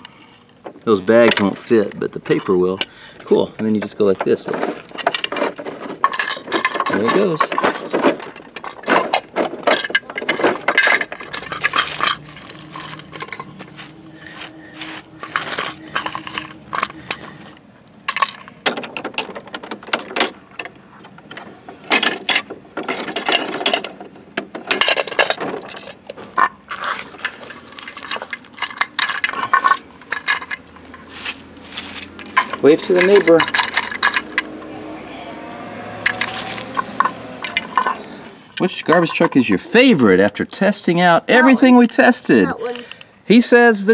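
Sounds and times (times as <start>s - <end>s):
plastic toy trucks clattering: 0.0s - 34.6s, 36.0s - 40.7s.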